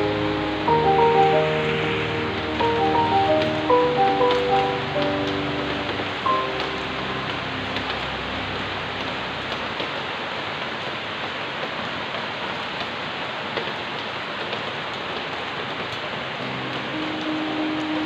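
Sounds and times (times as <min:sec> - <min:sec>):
rain drop ticks: 0:00.0 - 0:18.0
rain pouring: 0:00.0 - 0:18.0.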